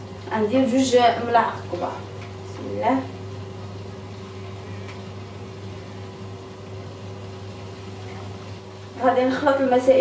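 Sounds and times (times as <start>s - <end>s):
low hum with faint high tone: 0.0s - 10.0s.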